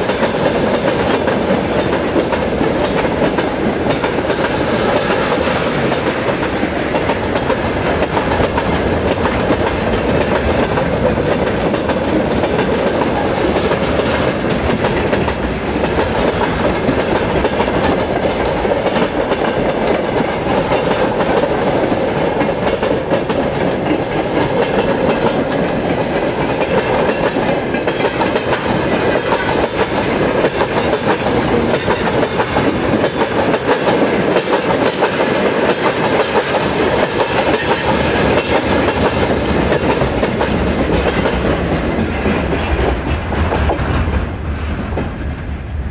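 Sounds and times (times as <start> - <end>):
steel wheels clattering on rails: 0.0 - 45.2.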